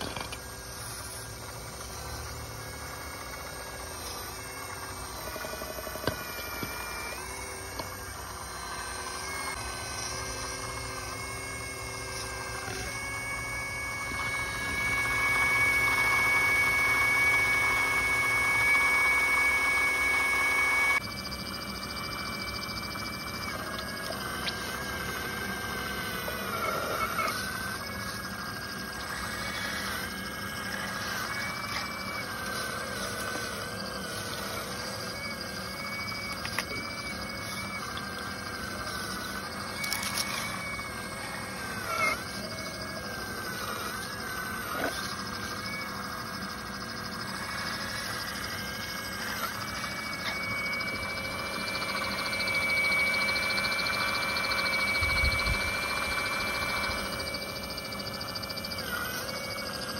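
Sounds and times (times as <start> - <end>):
hydraulic pump whining: 0.0 - 59.9.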